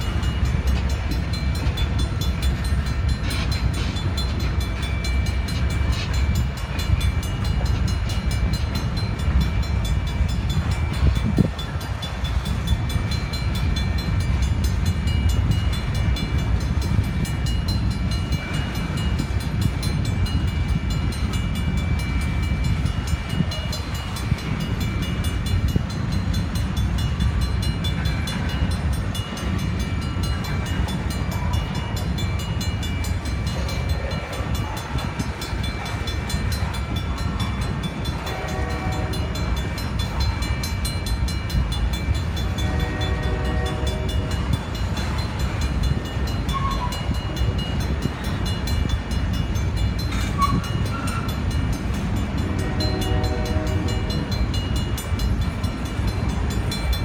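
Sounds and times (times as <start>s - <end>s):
crossing signal bell ringing: 0.0s - 57.0s
train wheels rumbling on rail: 0.0s - 57.0s.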